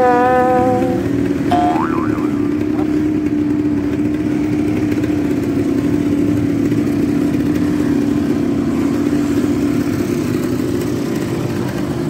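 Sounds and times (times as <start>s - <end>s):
quad bike engine idling: 0.0s - 12.0s.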